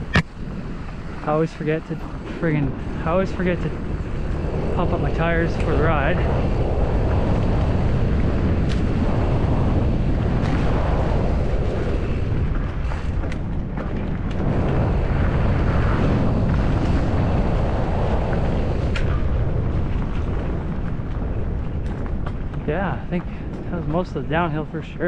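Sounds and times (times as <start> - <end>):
bike tyres rumbling on trail: 0.0 - 25.0
wind rushing over microphone: 0.0 - 25.0.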